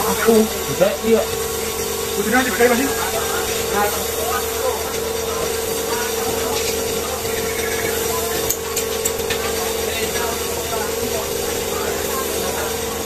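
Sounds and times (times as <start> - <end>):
spray gun hissing: 0.0 - 13.0.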